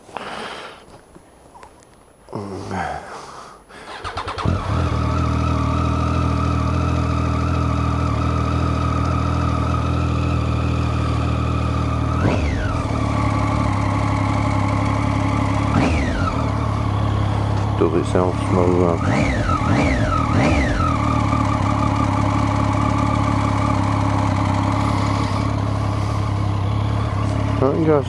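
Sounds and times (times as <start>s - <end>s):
motorcycle engine starting: 3.8s - 28.0s
motorcycle engine idling: 3.9s - 28.0s.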